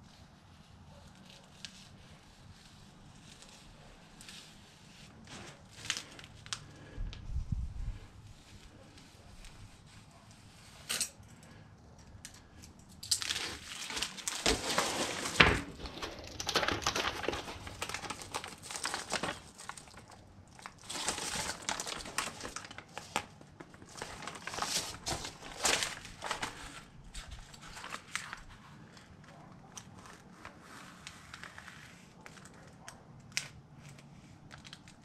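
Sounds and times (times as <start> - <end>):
sheet material crinkling: 0.0 - 7.0, 13.2 - 35.0.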